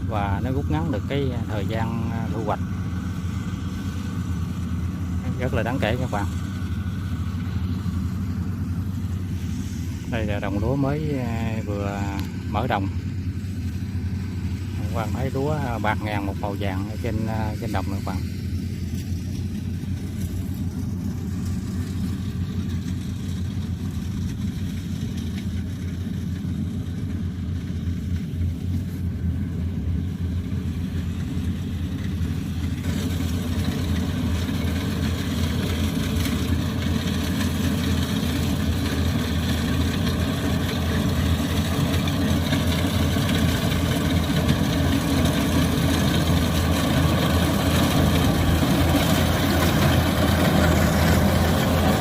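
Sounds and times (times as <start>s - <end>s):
combine harvester diesel engine: 0.0s - 52.0s.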